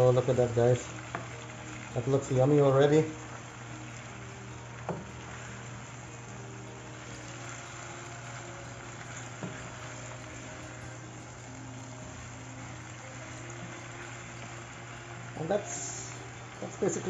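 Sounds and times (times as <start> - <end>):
food sizzling in a frying pan: 0.0 - 17.0
spatula stirring food: 0.3 - 17.0.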